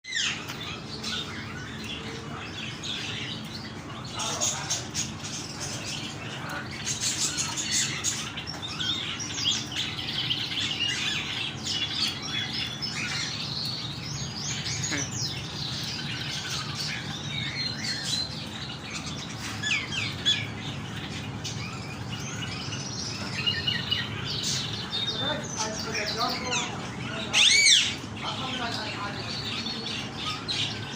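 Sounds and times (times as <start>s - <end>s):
small birds chirping: 0.0s - 30.9s
low background hum: 0.1s - 30.9s.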